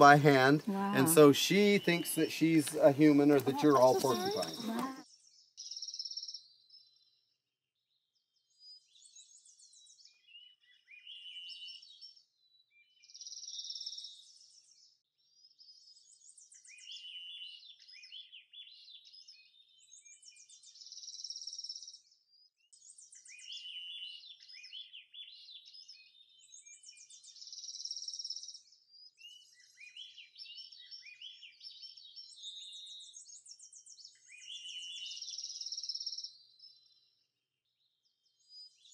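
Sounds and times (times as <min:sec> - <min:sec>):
songbird singing: 0:00.0 - 0:07.2, 0:08.2 - 0:38.9.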